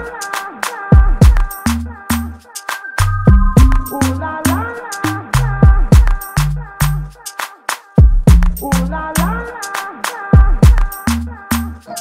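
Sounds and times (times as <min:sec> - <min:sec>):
hip-hop dance music: 0:00.0 - 0:12.0.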